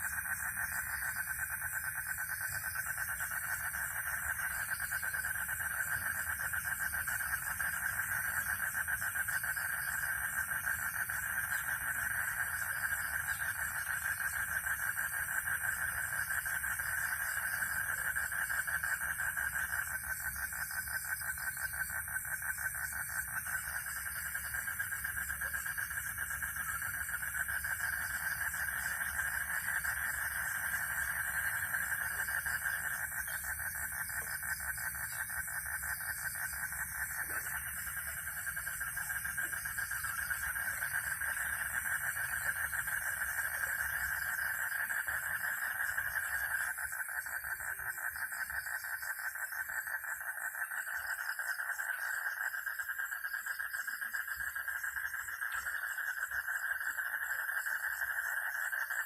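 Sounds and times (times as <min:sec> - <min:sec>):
crickets calling: 0:00.0 - 0:59.0
frogs calling: 0:00.0 - 0:59.0.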